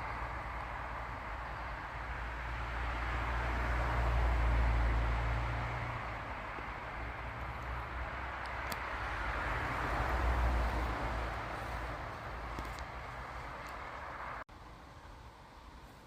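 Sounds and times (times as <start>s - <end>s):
vehicle passing: 0.0s - 14.4s.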